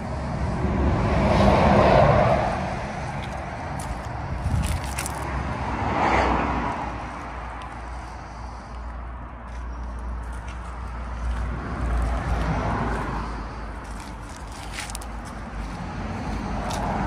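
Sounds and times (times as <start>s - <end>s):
low traffic rumble: 0.0s - 17.0s
vehicles passing: 0.0s - 17.0s.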